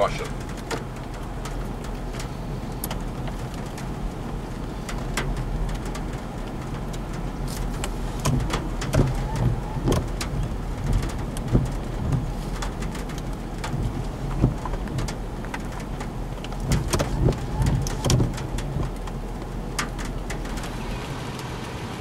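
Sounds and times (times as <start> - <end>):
wind and rain rushing: 0.0 - 22.0.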